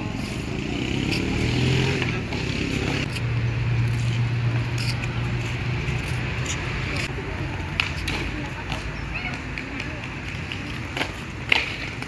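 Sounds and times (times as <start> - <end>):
vehicle engine humming: 0.0 - 12.0
sharp clicks and scuffs: 0.1 - 12.0.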